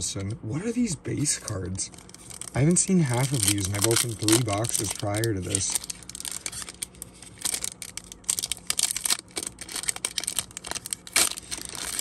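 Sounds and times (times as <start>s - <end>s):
foil wrapper crinkling and tearing: 1.1s - 12.0s.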